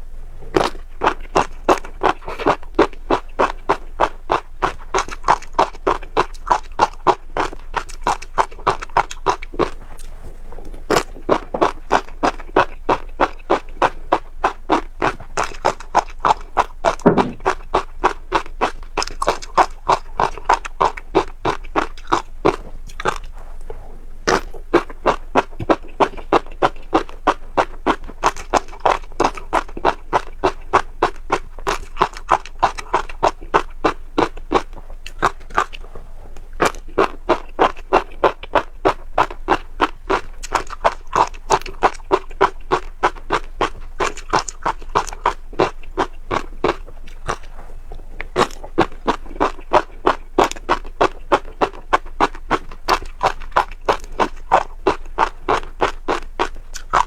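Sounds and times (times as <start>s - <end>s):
chewing crunchy seeds: 0.0s - 57.0s.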